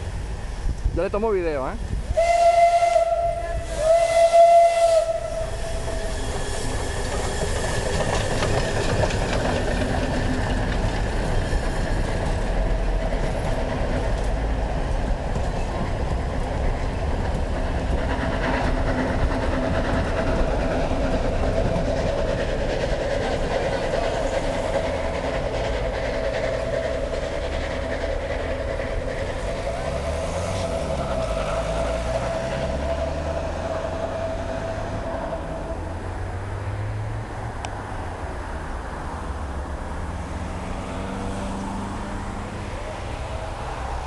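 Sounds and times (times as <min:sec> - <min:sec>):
steam train passing: 0:00.0 - 0:44.0.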